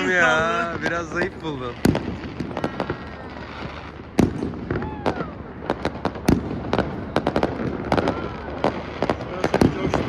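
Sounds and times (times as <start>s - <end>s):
firecrackers banging and crackling: 0.0s - 10.0s
loud firework bang: 1.6s - 10.0s.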